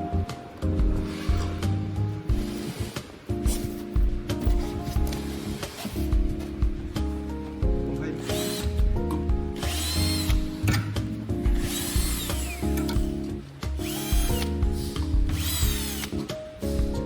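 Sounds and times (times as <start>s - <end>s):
background music with held chords: 0.0s - 17.0s.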